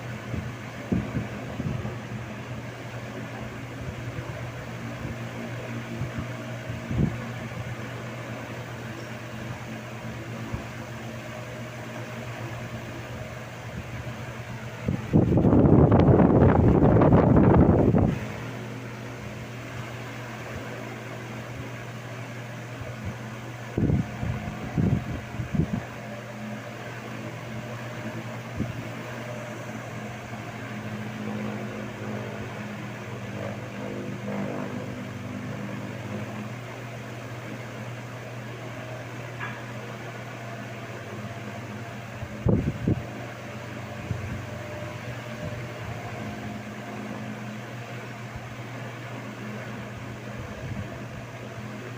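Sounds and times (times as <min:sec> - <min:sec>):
wall fan running: 0:00.0 - 0:51.9.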